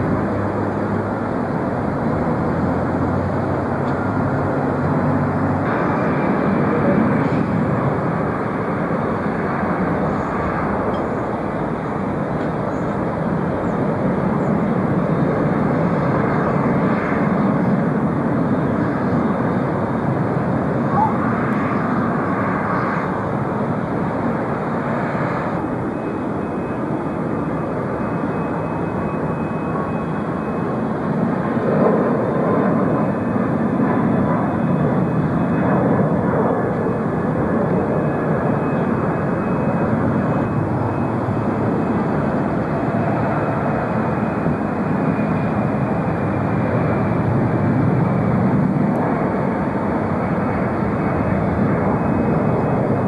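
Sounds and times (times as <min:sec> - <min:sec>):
jet airliner taking off: 0:00.0 - 0:53.0.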